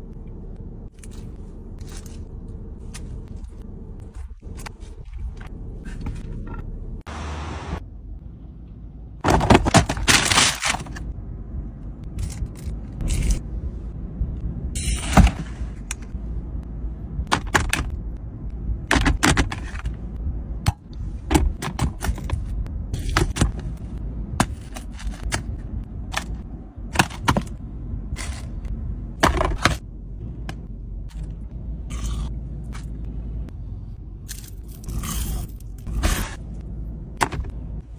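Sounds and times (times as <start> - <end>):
low rumble: 0.0 - 7.2, 7.8 - 9.6, 10.7 - 37.9.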